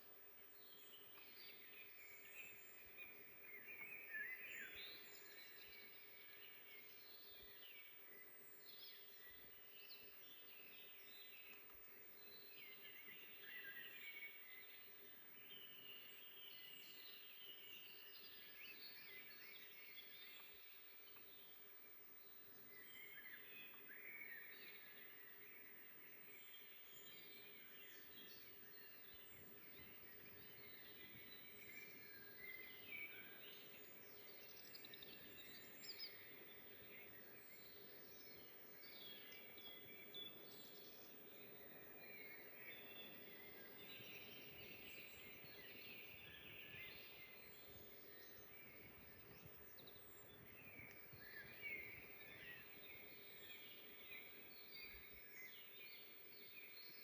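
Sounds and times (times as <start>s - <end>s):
soft steady hiss: 0.0s - 57.0s
songbirds chirping and trilling: 0.0s - 57.0s.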